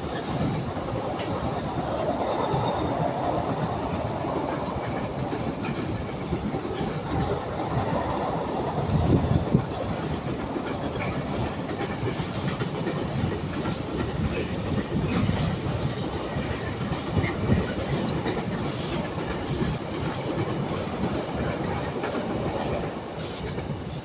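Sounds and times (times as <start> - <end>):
freight train wagons rumbling: 0.0 - 24.0
wheels clicking on track: 0.0 - 24.0.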